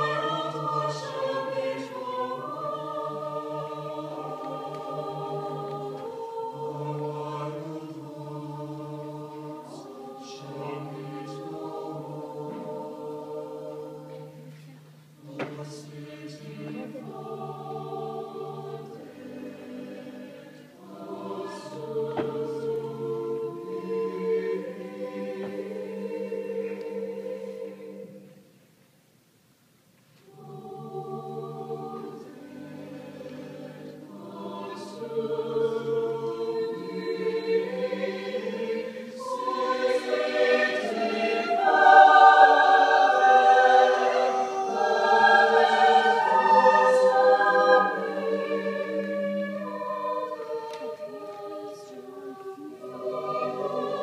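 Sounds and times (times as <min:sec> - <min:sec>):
chamber choir singing: 0:00.0 - 0:28.6, 0:30.2 - 0:54.0.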